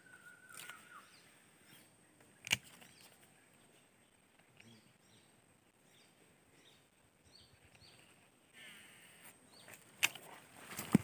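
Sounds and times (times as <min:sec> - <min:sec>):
faint bird chirps: 0:00.0 - 0:09.8.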